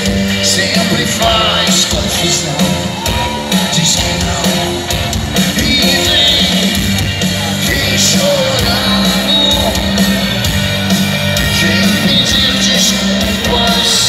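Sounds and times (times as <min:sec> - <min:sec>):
man singing: 0:00.0 - 0:10.5, 0:11.2 - 0:14.0
live rock band playing: 0:00.0 - 0:14.0.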